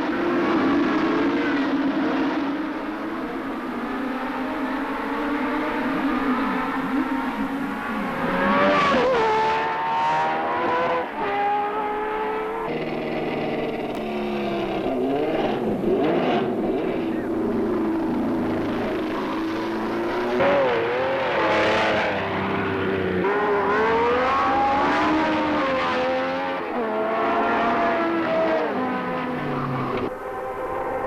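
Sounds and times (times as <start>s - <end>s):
race car engines at high revs: 0.0s - 31.0s.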